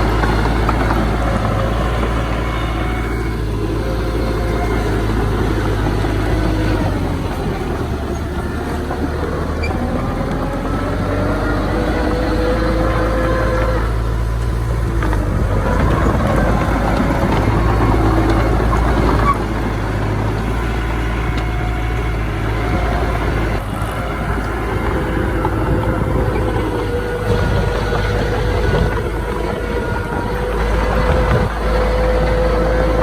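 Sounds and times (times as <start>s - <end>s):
diesel machinery rumbling: 0.0s - 33.0s
steady engine whine: 0.0s - 33.0s.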